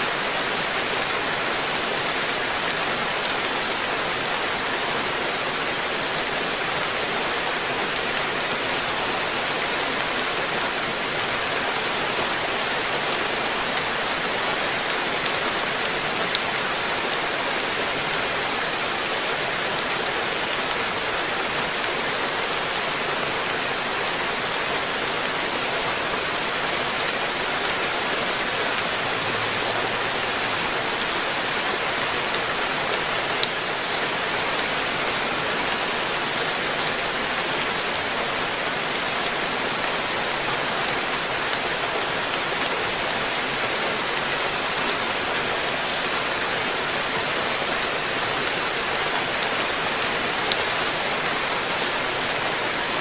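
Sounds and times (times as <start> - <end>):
rain falling on pond: 0.0 - 53.0.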